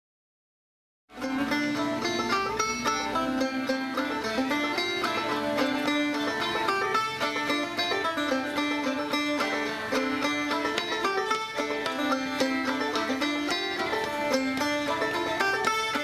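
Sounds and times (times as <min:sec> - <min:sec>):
bowed fiddle melody: 0:01.1 - 0:16.0
picked banjo notes: 0:01.1 - 0:16.0.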